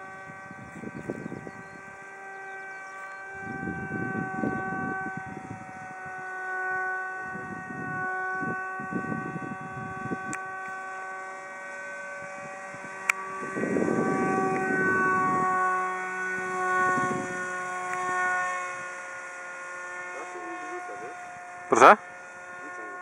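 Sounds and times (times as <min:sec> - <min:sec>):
low rumbling on microphone: 0:00.0 - 0:06.4, 0:07.0 - 0:19.0
model plane motor whining: 0:00.0 - 0:23.0.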